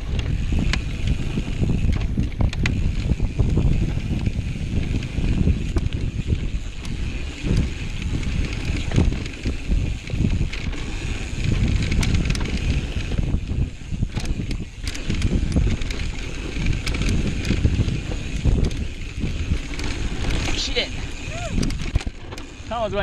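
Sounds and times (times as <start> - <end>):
bike rattling: 0.0 - 23.0
wind noise on microphone: 0.0 - 23.0.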